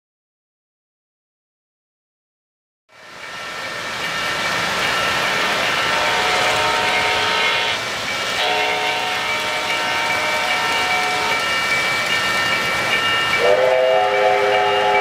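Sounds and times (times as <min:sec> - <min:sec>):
model train wheels on rail: 0:02.9 - 0:15.0.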